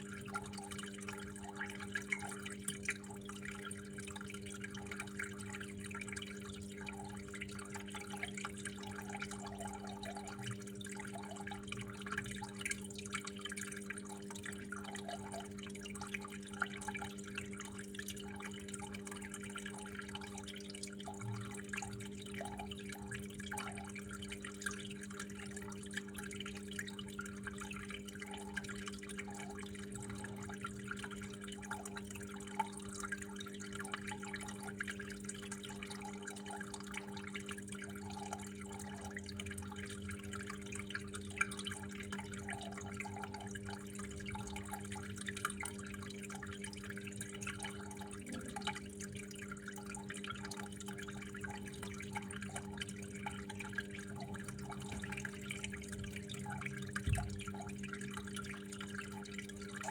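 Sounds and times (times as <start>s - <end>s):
water trickling and dripping: 0.0s - 59.9s.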